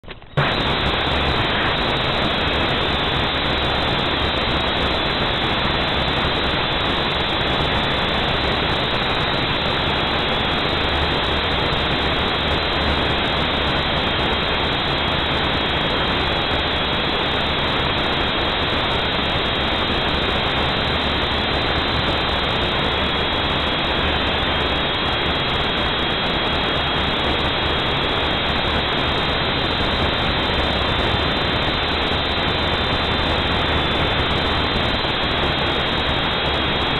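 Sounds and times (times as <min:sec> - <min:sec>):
quadcopter motors whirring: 0:00.4 - 0:36.9.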